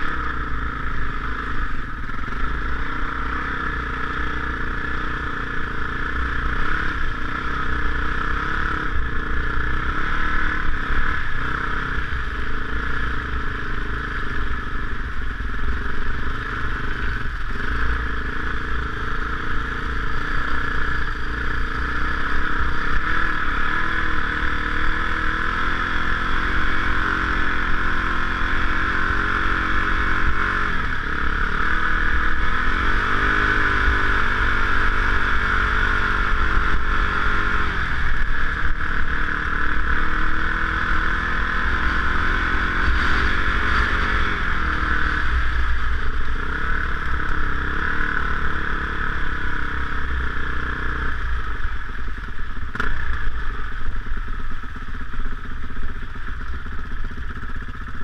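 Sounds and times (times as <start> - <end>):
dirt bike engine revving: 0.0 - 51.8, 52.7 - 53.8.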